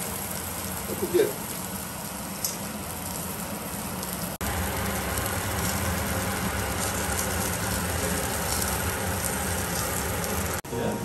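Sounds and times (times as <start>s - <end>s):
meat sizzling on a grill: 0.0s - 10.6s.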